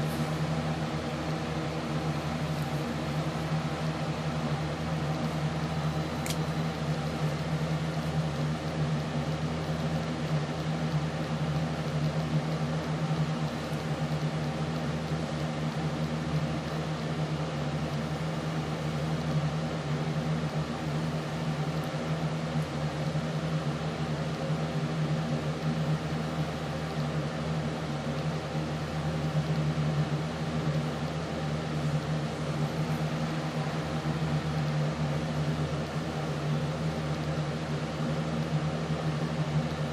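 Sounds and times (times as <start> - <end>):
machine hum with held tones: 0.0 - 39.9.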